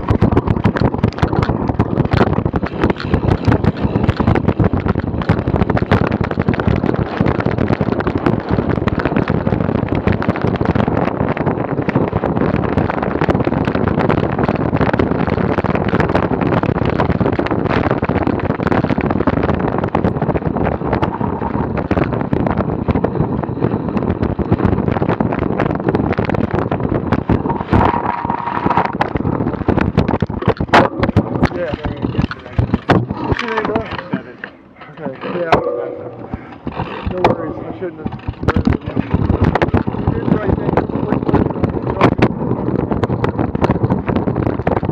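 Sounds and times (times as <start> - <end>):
bike rattling and knocking: 0.0 - 44.9
wind rushing over microphone: 0.0 - 44.9.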